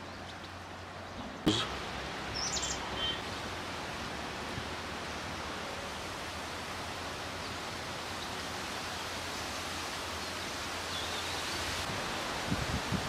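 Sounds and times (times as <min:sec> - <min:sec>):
woodland ambience hiss: 0:00.0 - 0:13.0.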